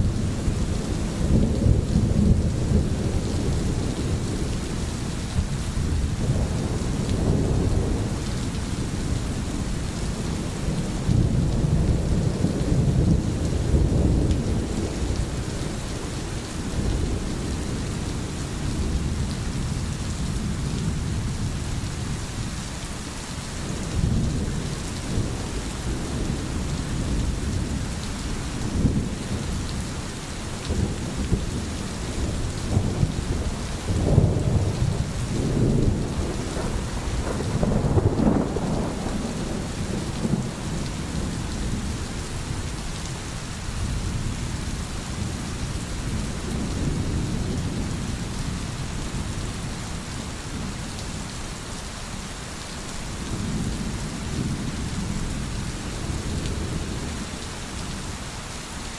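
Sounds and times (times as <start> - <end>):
rolling thunder rumbles: 0.0 - 22.2, 23.6 - 43.2, 43.8 - 51.3, 53.2 - 58.0
steady rainfall hiss: 0.0 - 58.9.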